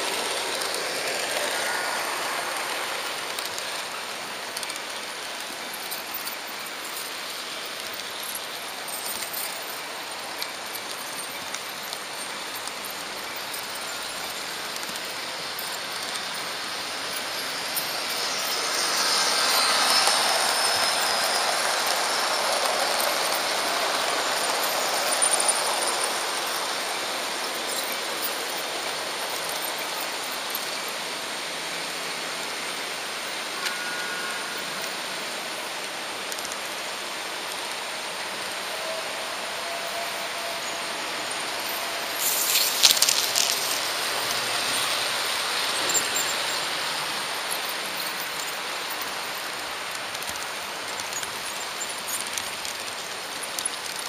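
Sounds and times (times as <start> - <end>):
model train wheels rolling: 0.0 - 54.0.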